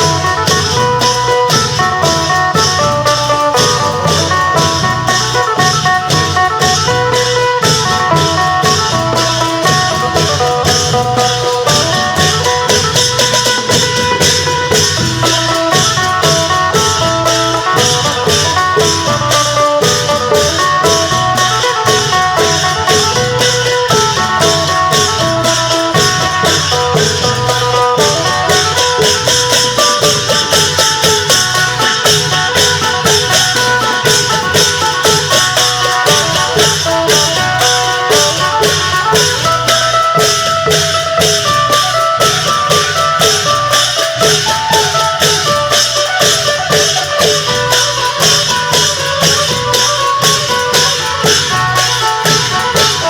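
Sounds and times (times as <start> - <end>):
cymbals: 0.0 - 53.0
long drums beating: 0.0 - 53.0
plucked lute melody: 0.0 - 53.0.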